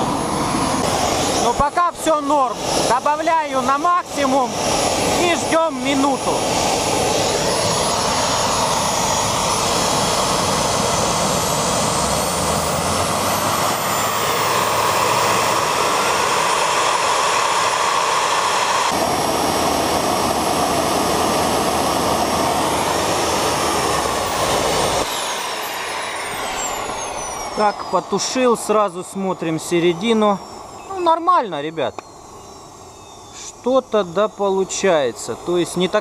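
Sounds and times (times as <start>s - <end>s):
high engine whine: 0.0s - 36.0s
jet-like engine roar: 0.0s - 36.0s.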